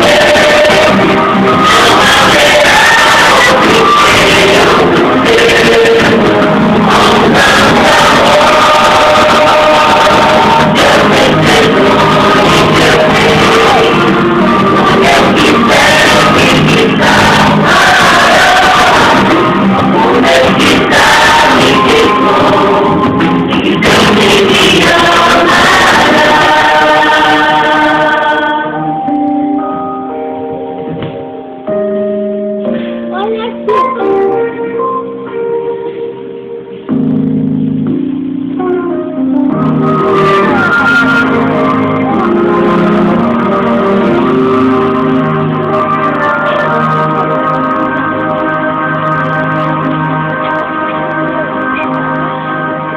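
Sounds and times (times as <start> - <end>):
worship music with singing: 0.0 - 31.8, 32.6 - 52.9.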